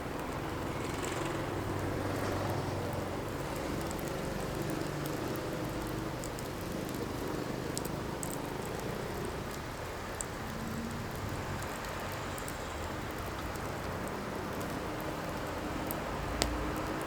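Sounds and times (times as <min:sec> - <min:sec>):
firewood burning with hiss: 0:00.1 - 0:17.0
fire crackling and popping: 0:01.4 - 0:17.0.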